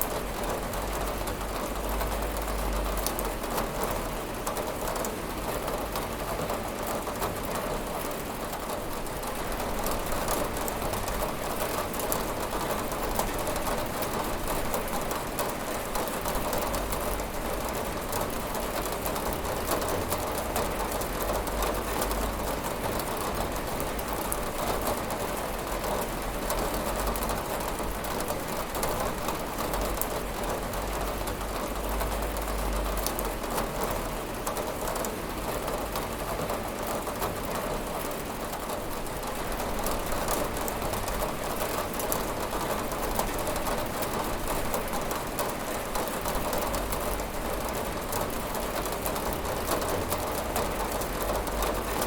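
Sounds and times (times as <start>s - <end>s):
rain on a window pane: 0.0s - 52.0s.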